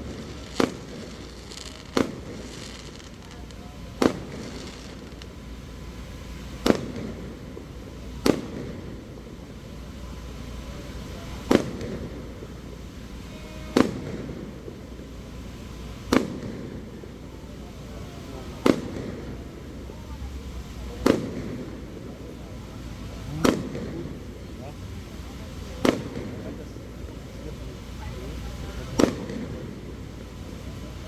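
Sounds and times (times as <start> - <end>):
background noise: 0.0 - 31.0
fireworks shells bursting: 0.0 - 31.0.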